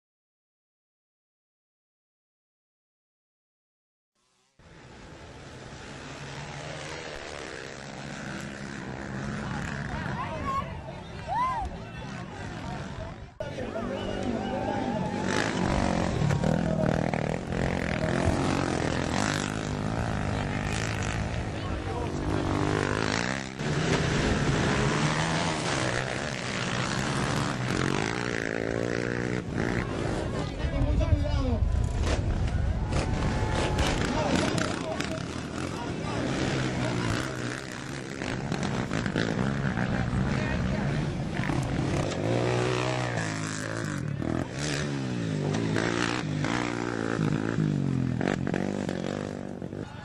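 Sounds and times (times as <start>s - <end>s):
atv engines revving: 4.6s - 50.0s.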